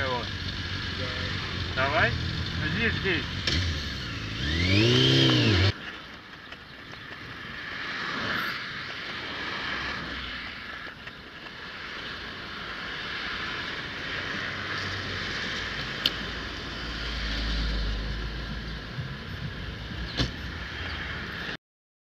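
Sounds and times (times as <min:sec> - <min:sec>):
street traffic: 0:00.0 - 0:21.6.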